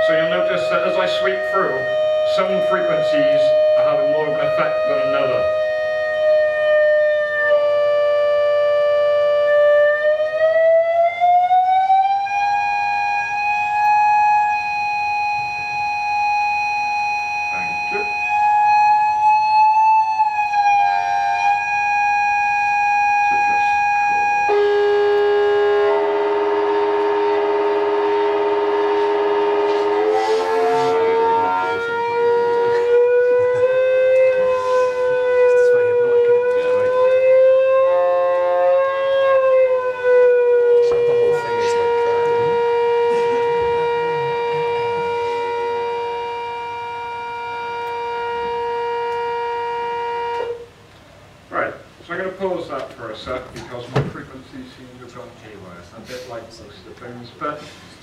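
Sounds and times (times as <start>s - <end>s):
sweeping electronic tone: 0.0s - 50.7s.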